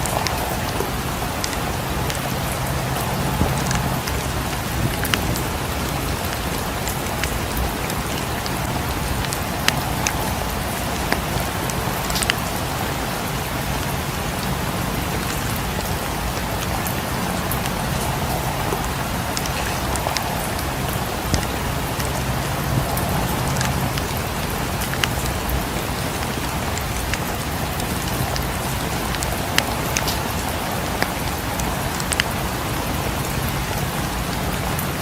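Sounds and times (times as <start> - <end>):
steady rain falling: 0.0 - 35.0
wood fire crackling and popping: 0.0 - 35.0.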